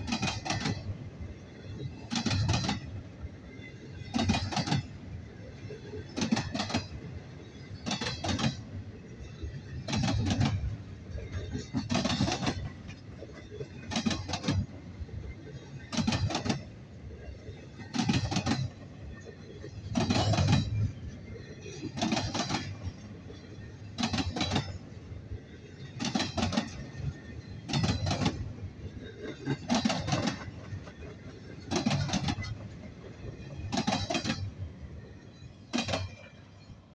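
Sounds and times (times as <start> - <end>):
train wheels clacking over rail joint: 0.0 - 36.9
rumble of wheels on rail: 0.0 - 37.0.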